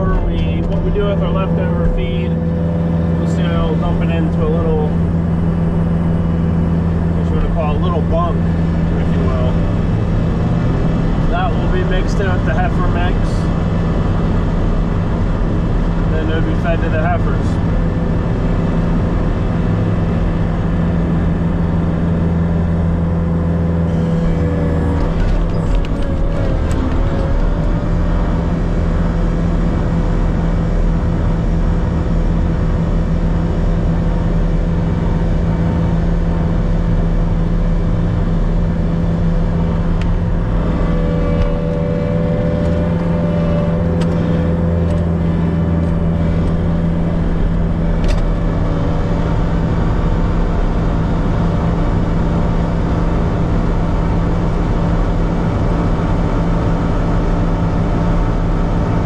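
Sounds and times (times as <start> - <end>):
diesel engine low hum: 0.0 - 59.0.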